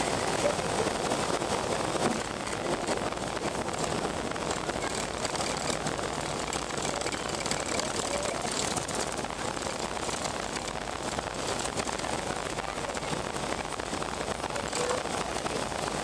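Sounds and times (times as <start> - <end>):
wheels rolling on tarmac: 0.0 - 16.0.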